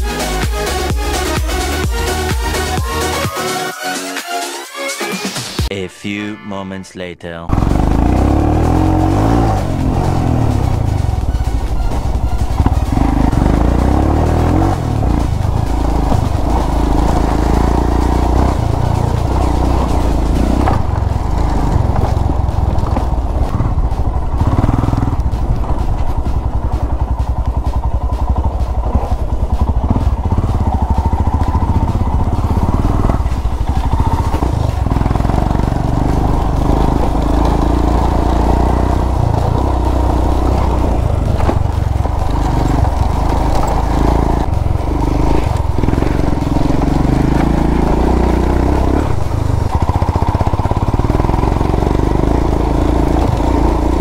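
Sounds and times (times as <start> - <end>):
motorcycle engine revving: 7.5 - 54.0.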